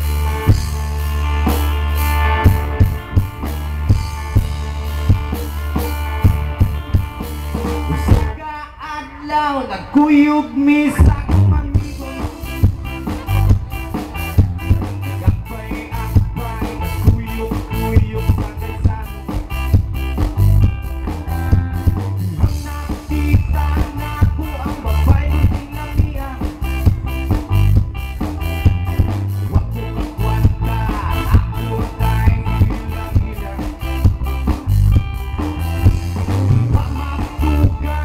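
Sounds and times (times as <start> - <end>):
electric guitar: 0.0 - 38.0
heavy bass: 0.0 - 38.0
drumbeat: 2.4 - 8.4, 11.0 - 38.0.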